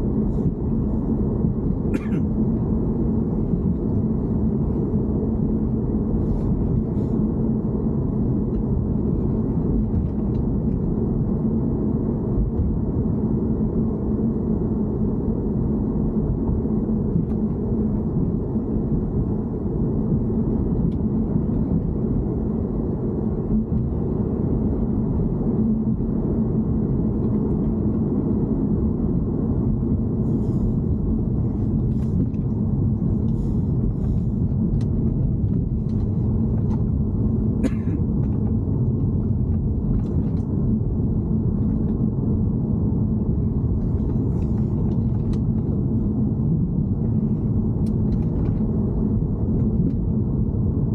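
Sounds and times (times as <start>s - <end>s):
car engine rumbling: 0.0s - 50.9s.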